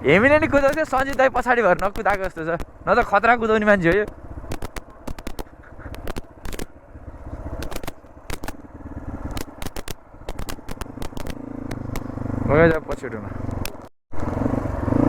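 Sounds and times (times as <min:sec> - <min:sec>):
knocks and rattles of bike: 0:00.0 - 0:15.0
motorcycle engine running: 0:00.0 - 0:15.0.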